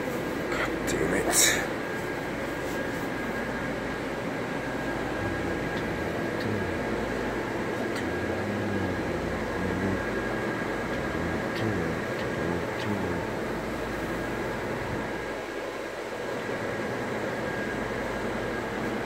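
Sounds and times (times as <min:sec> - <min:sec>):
low hum: 0:00.0 - 0:15.8
electric blower fans whirring: 0:00.0 - 0:19.0
thin steady whine: 0:00.0 - 0:19.0.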